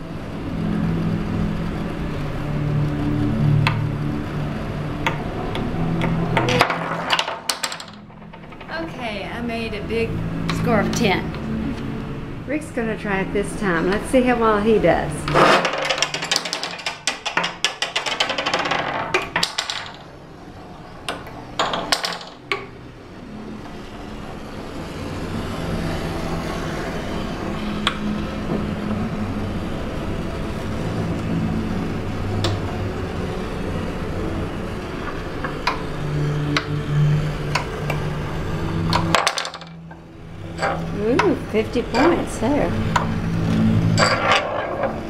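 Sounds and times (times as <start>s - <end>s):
spinning top whirring hum: 0.0s - 45.0s.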